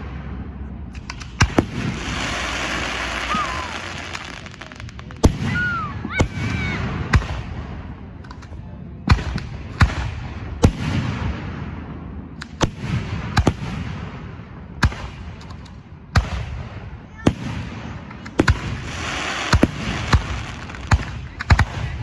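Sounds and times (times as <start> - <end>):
fireworks bursting with echoes: 0.0 - 22.0.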